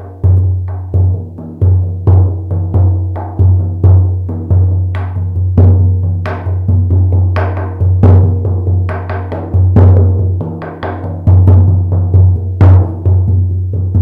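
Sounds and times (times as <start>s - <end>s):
frame drum booming beat: 0.0s - 14.0s.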